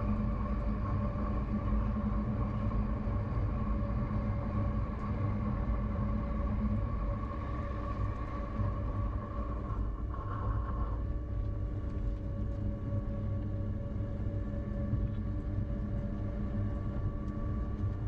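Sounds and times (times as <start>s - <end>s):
droning tones: 0.0s - 18.0s
train rumbling in tunnel: 0.0s - 18.0s.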